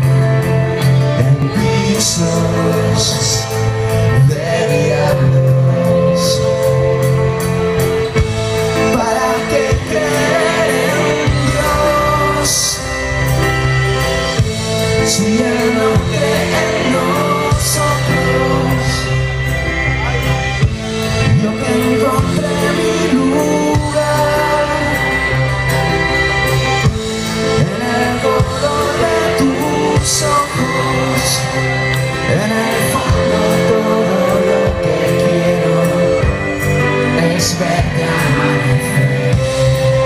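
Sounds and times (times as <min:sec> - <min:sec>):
live band playing: 0:00.0 - 0:40.0
person singing: 0:00.0 - 0:40.0.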